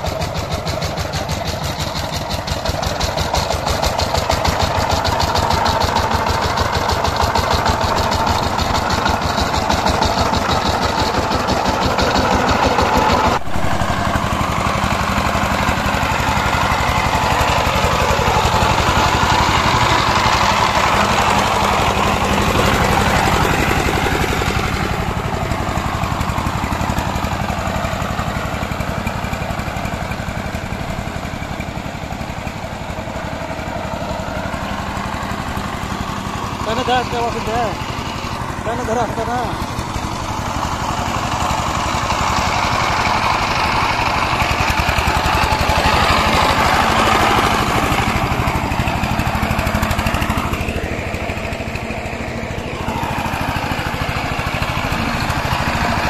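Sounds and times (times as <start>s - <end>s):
tiller diesel engine running: 0.0s - 56.0s.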